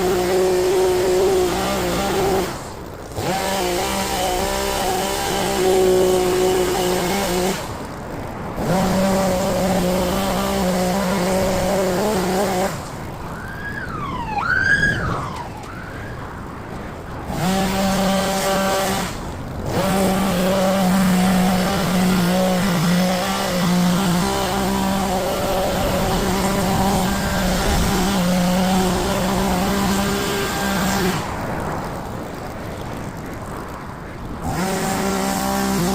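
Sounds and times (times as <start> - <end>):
hedge trimmer motor running: 0.0 - 13.5, 16.7 - 35.9.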